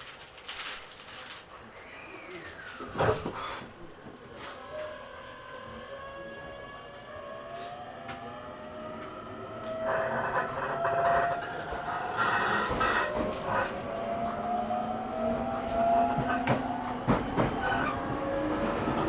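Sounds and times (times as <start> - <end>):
wheels on rail: 2.4 - 19.0.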